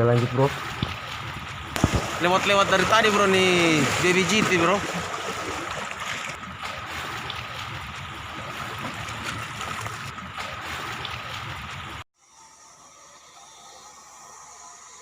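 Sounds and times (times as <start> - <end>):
seaside wind: 0.0 - 12.0
water noise: 0.0 - 12.1.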